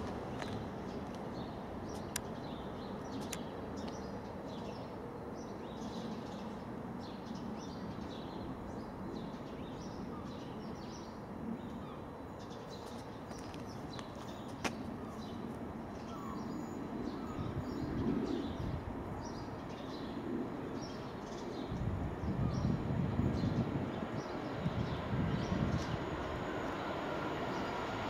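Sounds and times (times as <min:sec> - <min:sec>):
small birds chirping: 0:00.3 - 0:28.0.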